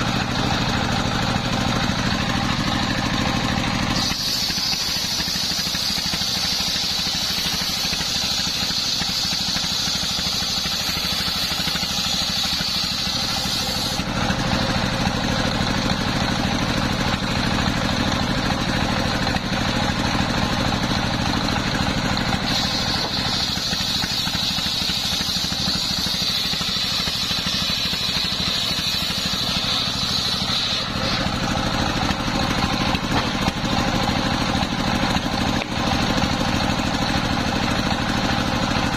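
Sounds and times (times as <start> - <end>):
saw blade cutting wood: 0.0 - 38.9
single-cylinder engine running: 0.0 - 38.9.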